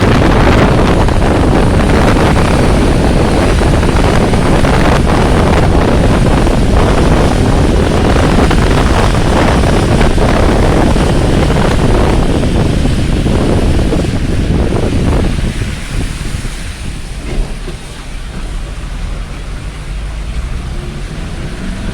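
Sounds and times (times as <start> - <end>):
heavy rain: 0.0 - 21.9
wind on microphone: 0.0 - 21.9.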